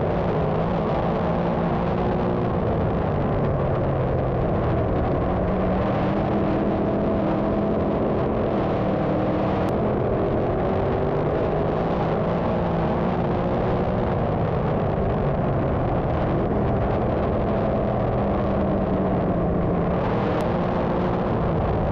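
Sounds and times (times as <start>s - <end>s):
race car engines roaring: 0.0s - 21.9s.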